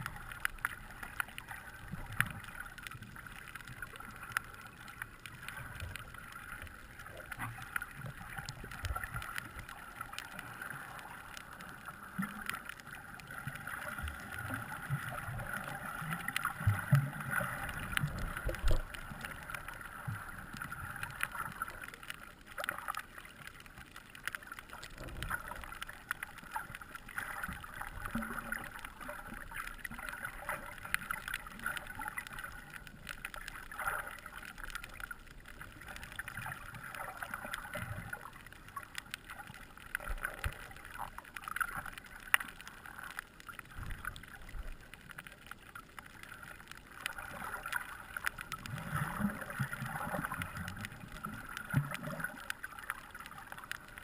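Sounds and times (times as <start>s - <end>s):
small clicks and ticks: 0.0s - 54.0s.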